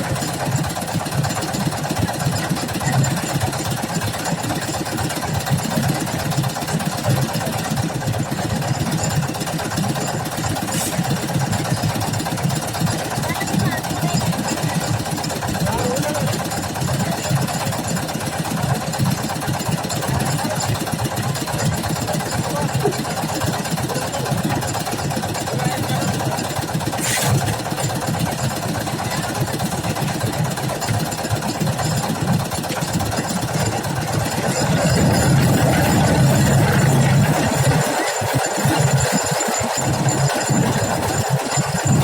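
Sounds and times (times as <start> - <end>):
construction machine engine running: 0.0 - 42.0.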